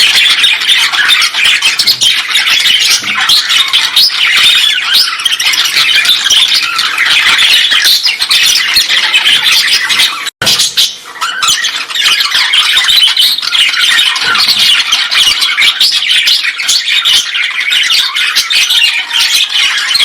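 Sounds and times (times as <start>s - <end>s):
many small birds chattering: 0.0s - 20.0s.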